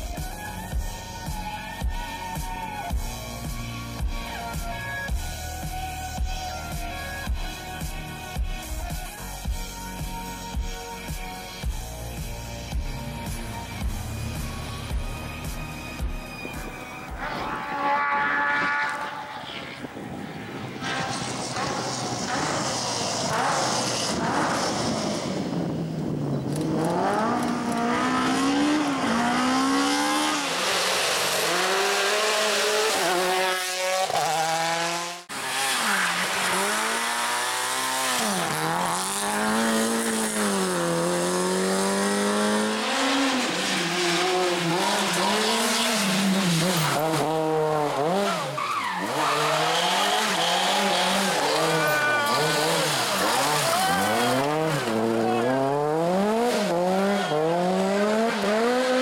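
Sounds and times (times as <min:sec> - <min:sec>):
rally car engines revving: 0:11.5 - 0:59.0.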